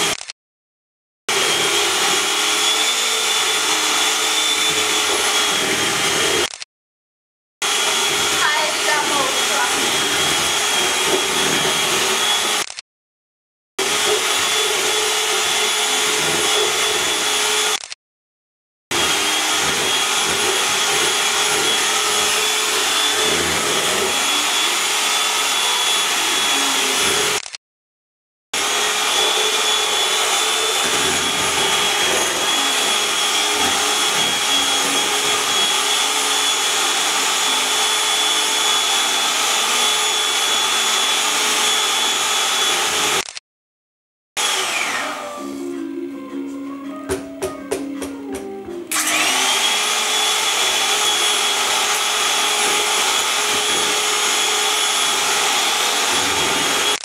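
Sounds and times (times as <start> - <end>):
electric mixer whirring: 0.0 - 0.3, 1.3 - 6.7, 7.6 - 12.8, 13.8 - 18.0, 18.9 - 27.6, 28.6 - 43.4, 44.4 - 45.7, 48.9 - 57.0.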